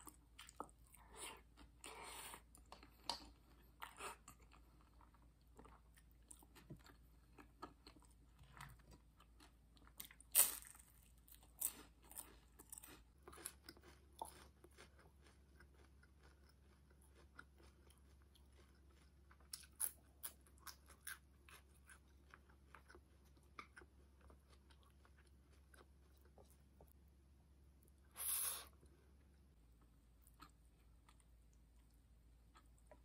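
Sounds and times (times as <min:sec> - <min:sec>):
chewing crunchy food: 0:00.0 - 0:27.1.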